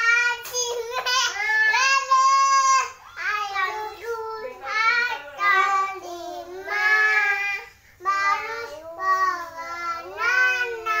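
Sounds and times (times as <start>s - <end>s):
young child singing: 0.0s - 11.0s.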